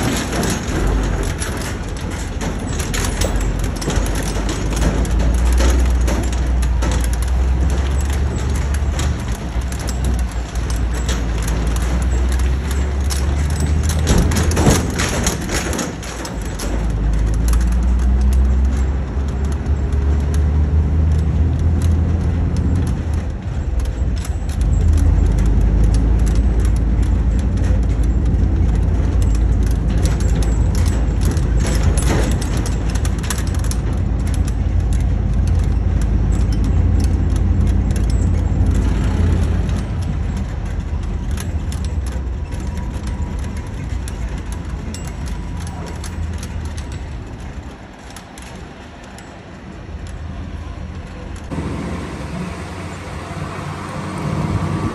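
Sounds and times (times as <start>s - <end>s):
rattling and clicking: 0.0s - 51.6s
truck diesel engine droning: 0.0s - 54.9s.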